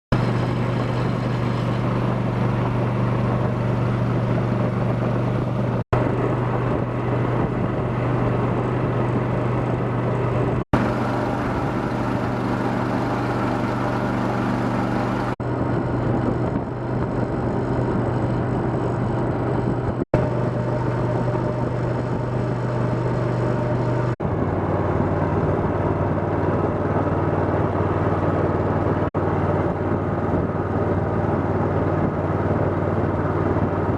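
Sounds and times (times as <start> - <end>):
vehicle engine droning: 0.1 - 33.9.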